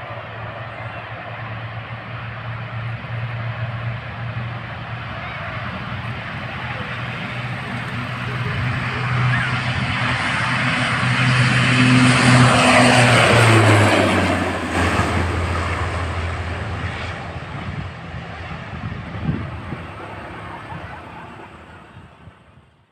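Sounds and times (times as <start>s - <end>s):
propeller aircraft engine drone: 0.0s - 22.9s.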